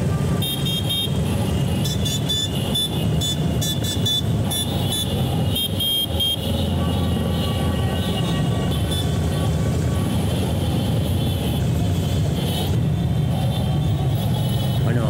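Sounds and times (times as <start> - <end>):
motorcycle engines rumbling: 0.0 - 15.0.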